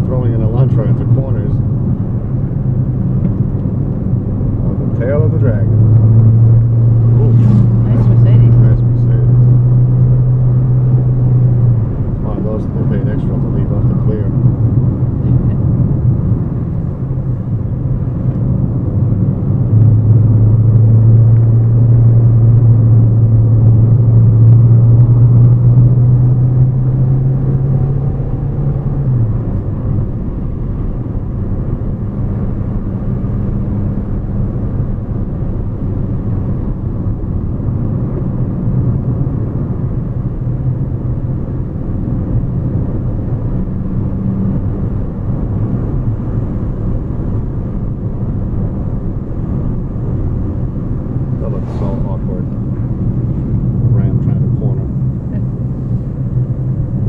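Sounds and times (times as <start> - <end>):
car engine drone: 0.0 - 57.0
road and tyre noise: 0.0 - 57.0.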